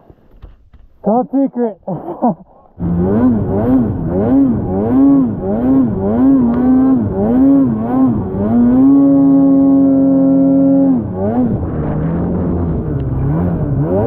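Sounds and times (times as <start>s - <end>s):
snowmobile engine revving: 2.0s - 14.0s.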